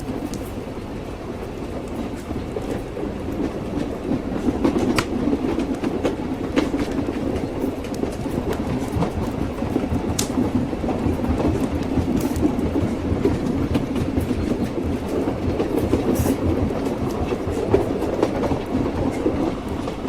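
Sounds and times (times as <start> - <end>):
train wheels clattering on rails: 0.0 - 20.0.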